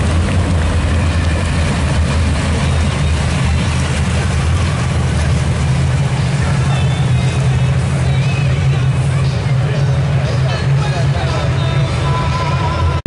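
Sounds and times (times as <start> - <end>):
race car engines rumbling: 0.0 - 13.0.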